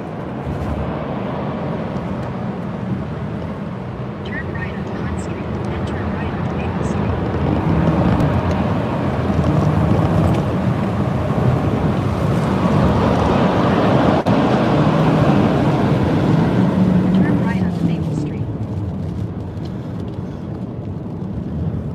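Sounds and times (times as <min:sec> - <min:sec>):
engine and tyre hum: 0:00.0 - 0:21.9
wind and road noise in car: 0:00.0 - 0:21.9.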